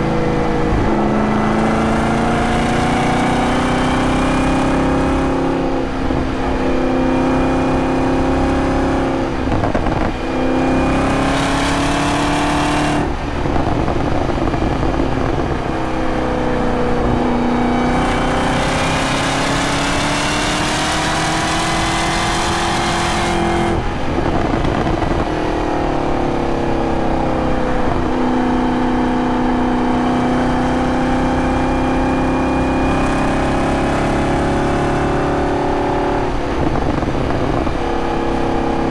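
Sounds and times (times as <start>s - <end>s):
car engine under varying throttle: 0.0s - 38.9s.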